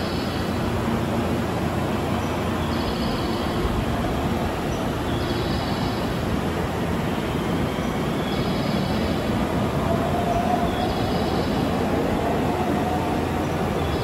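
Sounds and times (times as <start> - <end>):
train noise: 0.0 - 14.0.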